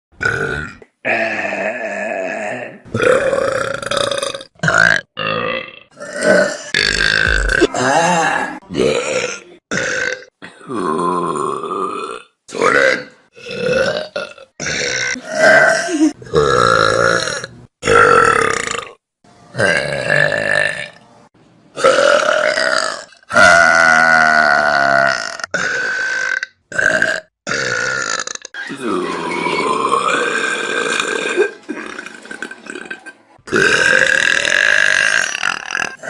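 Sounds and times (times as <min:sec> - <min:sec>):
people burping: 0:00.2 - 0:21.0, 0:21.8 - 0:36.0.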